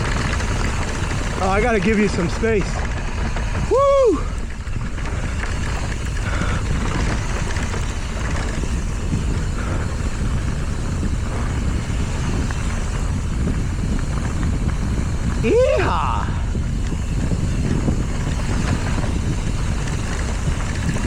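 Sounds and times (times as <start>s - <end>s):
bike tyres on dirt: 0.0s - 21.0s
wind on microphone: 0.0s - 21.0s.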